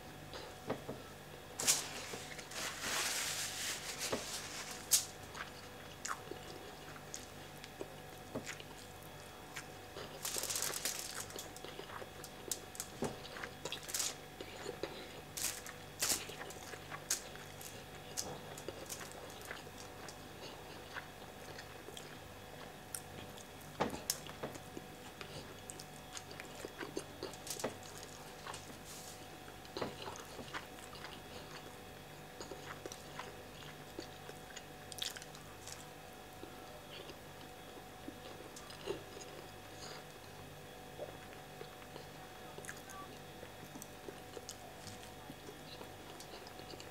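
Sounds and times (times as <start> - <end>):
faint steady hum: 0.0 - 46.9
man chewing and mouth sounds: 5.0 - 46.9.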